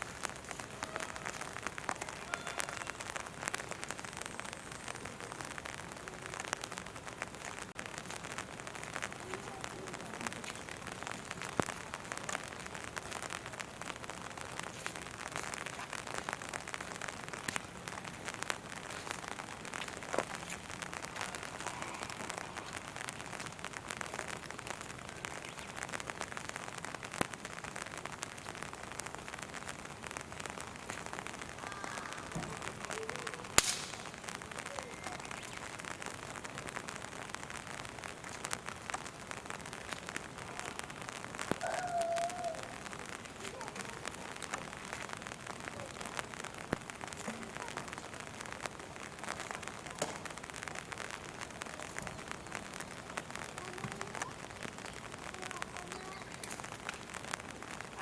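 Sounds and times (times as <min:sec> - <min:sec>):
rain falling: 0:00.0 - 0:58.0
raindrops ticking: 0:00.0 - 0:58.0.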